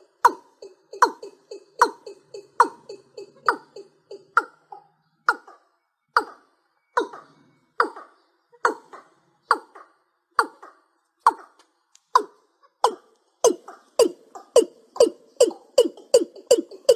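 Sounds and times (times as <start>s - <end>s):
bird calling hollow notes: 0.0s - 16.9s.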